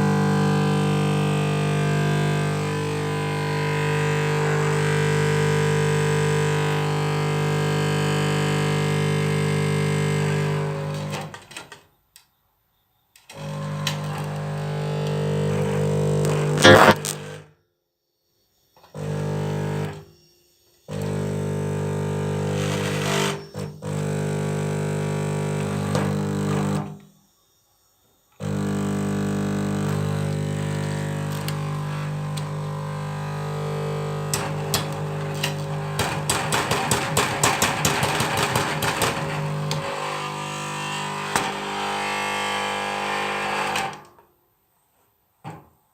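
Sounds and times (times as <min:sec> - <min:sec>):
ballast buzzing with mains hum: 0:00.0 - 0:12.1, 0:13.3 - 0:17.6, 0:18.6 - 0:44.1.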